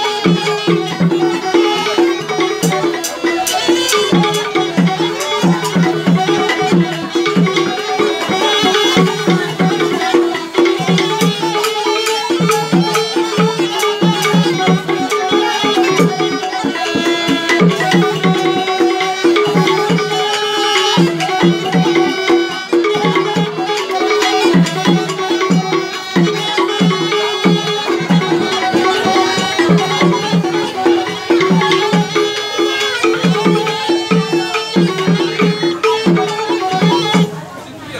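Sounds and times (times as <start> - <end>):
wooden xylophone struck with mallets: 0.0 - 37.7
bamboo flutes playing melody: 0.0 - 37.9.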